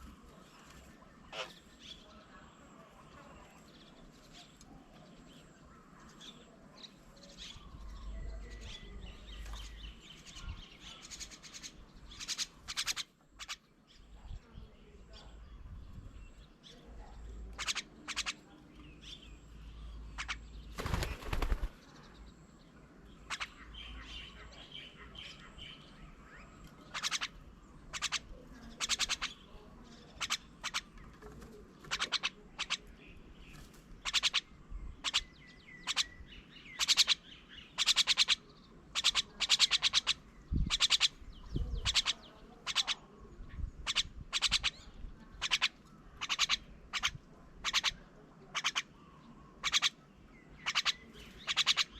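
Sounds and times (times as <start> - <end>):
birds rasping calls: 0.0 - 14.2, 15.1 - 51.9.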